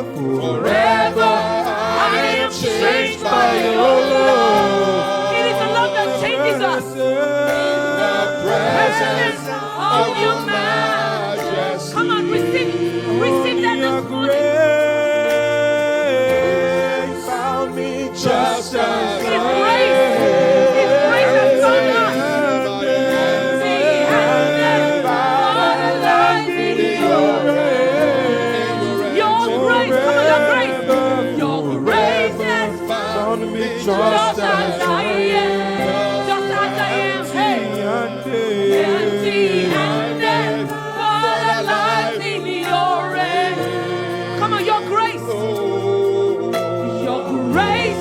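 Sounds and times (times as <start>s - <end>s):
group singing a worship song: 0.0s - 48.0s
steady held chords: 0.0s - 48.0s.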